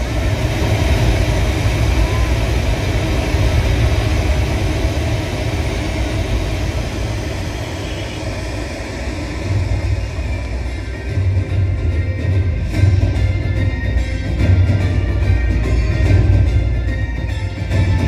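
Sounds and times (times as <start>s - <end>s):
bass-heavy rumbling over loudspeakers: 0.0s - 18.0s.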